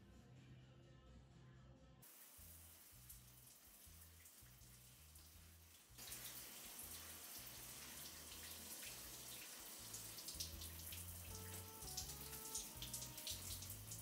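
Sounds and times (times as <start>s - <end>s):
soft background music: 0.0s - 14.0s
shower water spraying: 2.0s - 14.0s.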